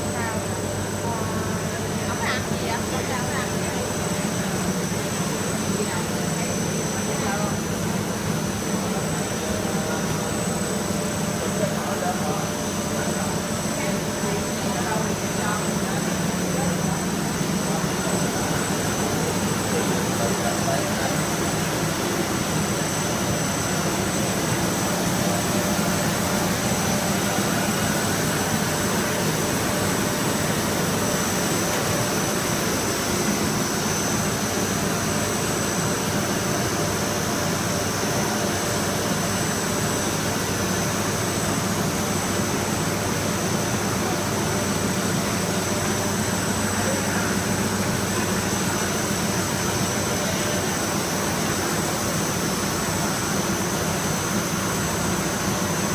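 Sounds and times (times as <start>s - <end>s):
machine mechanical hum: 0.0s - 55.9s.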